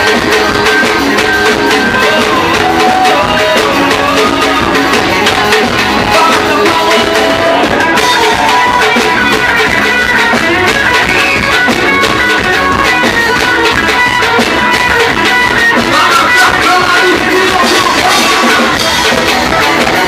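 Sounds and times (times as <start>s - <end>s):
drum kit beat: 0.0s - 20.0s
electric guitar: 0.0s - 20.0s
live band playing: 0.0s - 20.0s.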